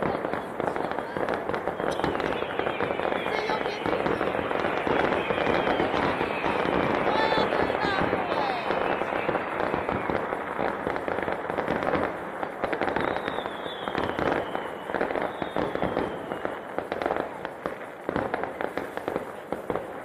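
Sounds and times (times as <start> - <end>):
firework whistles descending: 0.0 - 20.0
fireworks crackling and banging: 0.0 - 20.0.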